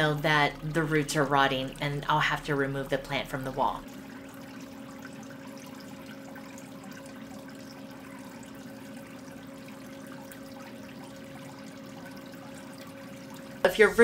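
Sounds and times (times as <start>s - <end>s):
water pump humming: 0.0s - 14.0s
water trickling: 0.0s - 14.0s.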